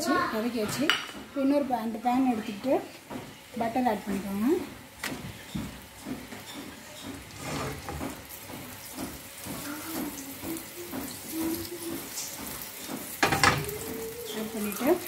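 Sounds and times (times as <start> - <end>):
butter sizzling in frying pan: 0.0 - 15.0.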